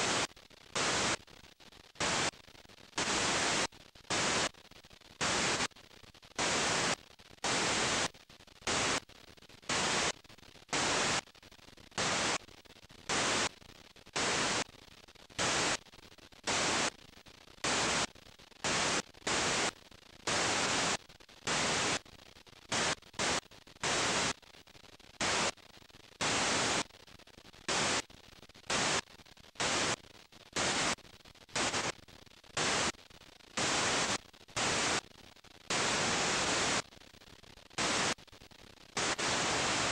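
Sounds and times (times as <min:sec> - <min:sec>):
bursts of static hiss: 0:00.0 - 0:39.9
faint steady hiss: 0:00.0 - 0:39.9.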